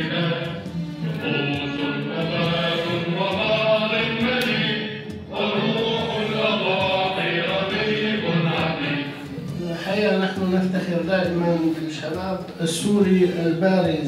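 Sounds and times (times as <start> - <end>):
choir singing with music: 0.0 - 14.0.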